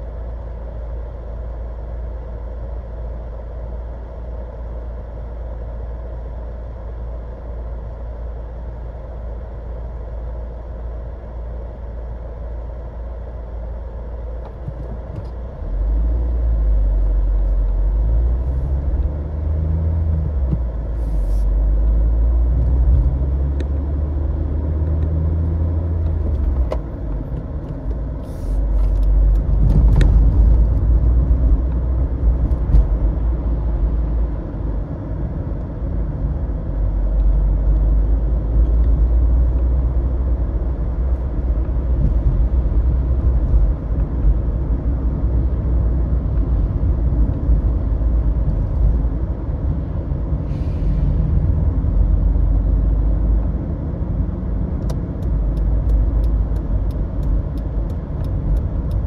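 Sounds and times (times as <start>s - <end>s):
car engine rumble: 0.0s - 59.0s
road noise: 0.0s - 59.0s.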